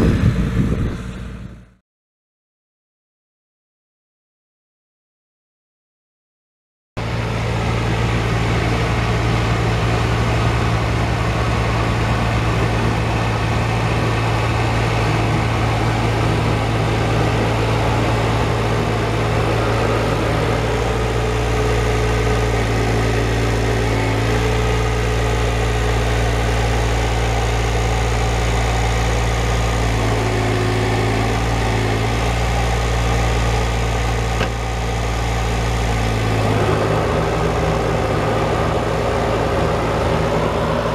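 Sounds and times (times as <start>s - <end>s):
tractor engine running: 0.0s - 1.8s, 7.0s - 40.9s.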